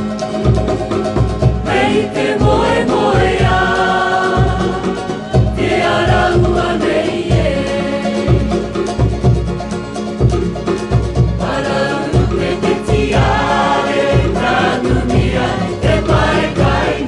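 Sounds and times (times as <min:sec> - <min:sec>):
group singing in harmony: 0:01.4 - 0:09.5, 0:11.2 - 0:17.0.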